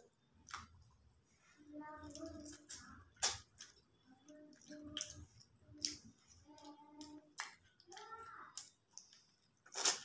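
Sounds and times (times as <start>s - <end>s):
mouth chewing with wet clicks: 0.3s - 1.0s, 2.0s - 10.0s.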